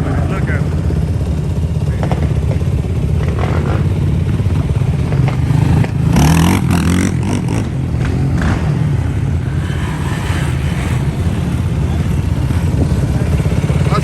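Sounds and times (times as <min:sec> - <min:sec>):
engine revving: 0:00.0 - 0:14.0
off-road engines running: 0:00.0 - 0:14.0.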